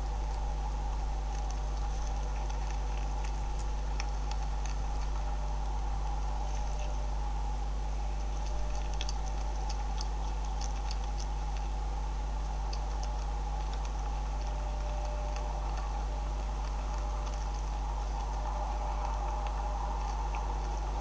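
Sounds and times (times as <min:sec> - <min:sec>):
beavers crunching feed: 0:00.0 - 0:21.0
steady low hum: 0:00.0 - 0:21.0.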